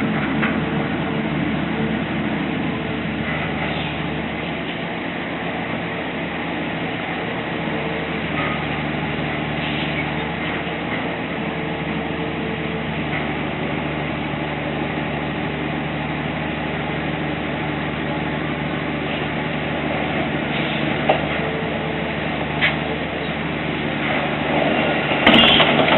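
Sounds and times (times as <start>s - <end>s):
steady engine-like hum: 0.0s - 25.9s.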